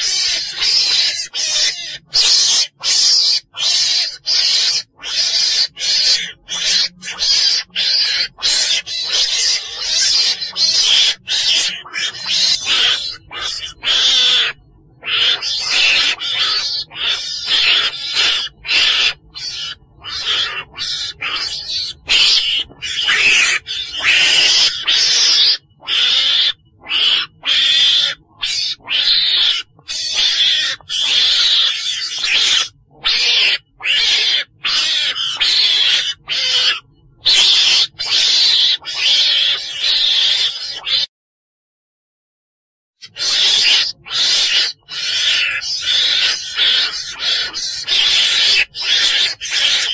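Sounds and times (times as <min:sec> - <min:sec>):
shrill raspy animal calls: 0:00.0 - 0:41.1, 0:43.0 - 0:49.9.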